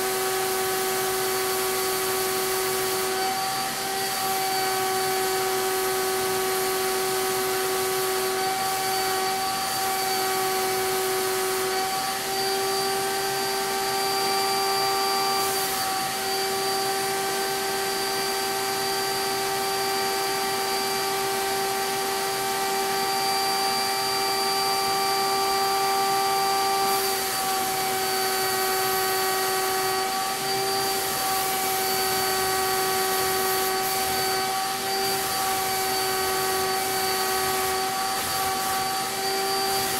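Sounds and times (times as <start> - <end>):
paint sprayer high whine: 0.0 - 39.9.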